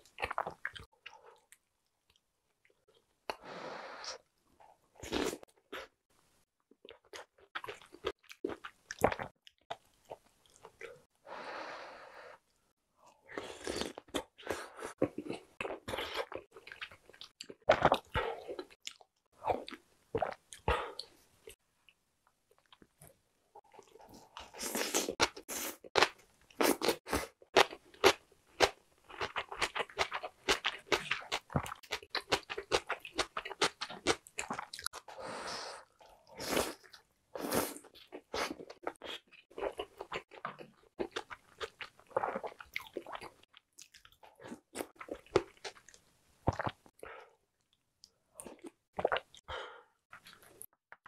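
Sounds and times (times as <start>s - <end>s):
close chewing and crunching: 0.0s - 3.0s, 6.8s - 11.1s, 13.3s - 21.6s, 22.5s - 35.1s, 35.9s - 49.5s.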